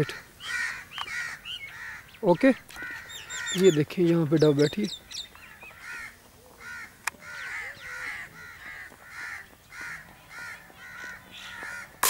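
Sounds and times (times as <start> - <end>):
crows cawing: 0.0 - 3.8, 5.3 - 12.0.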